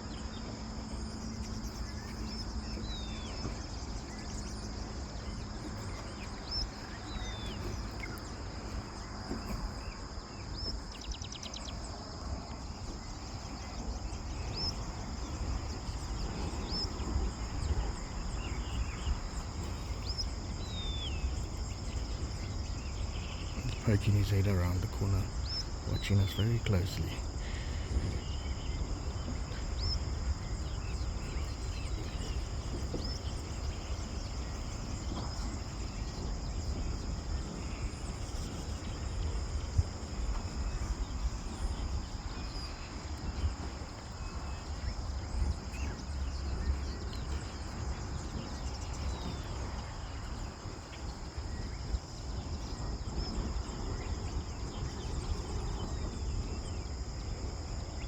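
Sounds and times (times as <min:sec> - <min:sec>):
insects droning: 0:00.0 - 0:58.0
low rumble on microphone: 0:00.0 - 0:58.0.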